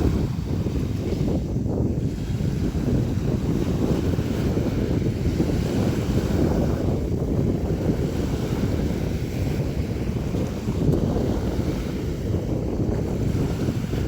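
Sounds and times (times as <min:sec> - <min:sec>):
sea waves splashing: 0:00.0 - 0:14.0
wind rumble on microphone: 0:00.0 - 0:14.0.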